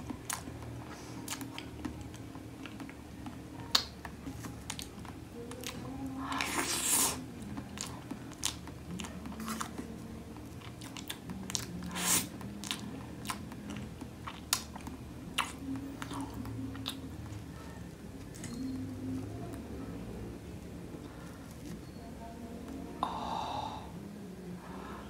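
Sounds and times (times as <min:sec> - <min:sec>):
chewing cake: 0:00.0 - 0:22.0.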